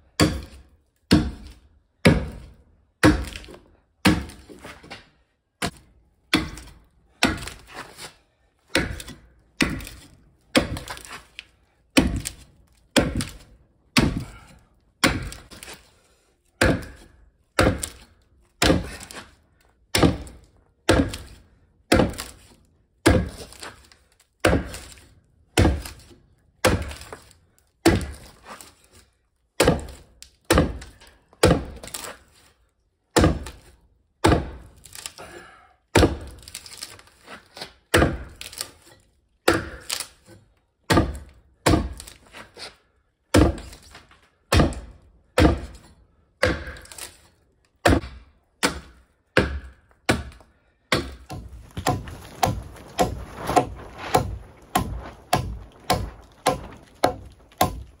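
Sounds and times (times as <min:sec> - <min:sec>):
axe chopping log: 0:00.1 - 0:15.9, 0:16.6 - 0:28.8, 0:29.6 - 0:32.3, 0:33.1 - 0:38.8, 0:39.4 - 0:58.0.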